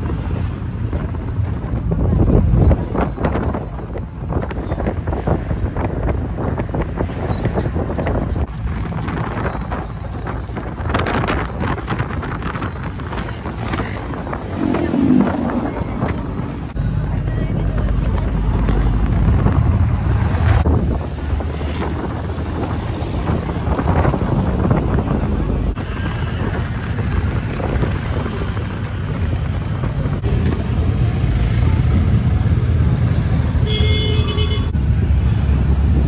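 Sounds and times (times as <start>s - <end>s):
wind buffeting microphone: 0.0s - 33.6s
vehicle engine and road noise: 0.0s - 36.0s.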